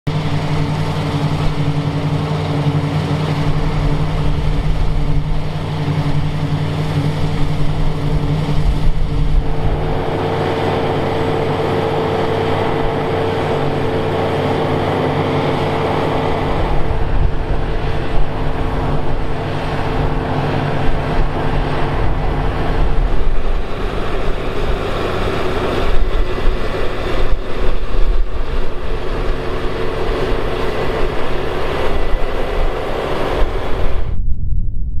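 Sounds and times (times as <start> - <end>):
combine harvester running: 0.1 - 34.2.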